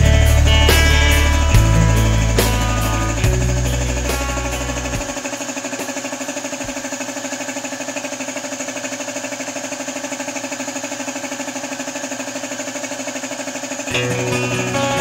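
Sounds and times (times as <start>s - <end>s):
air compressor running: 0.0s - 15.0s.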